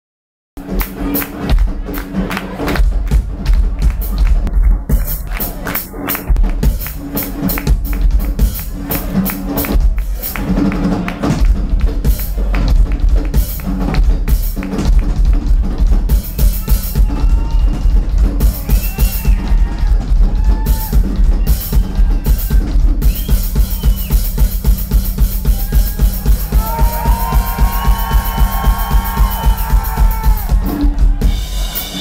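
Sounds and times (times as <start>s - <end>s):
rock drum kit playing: 0.6s - 32.0s.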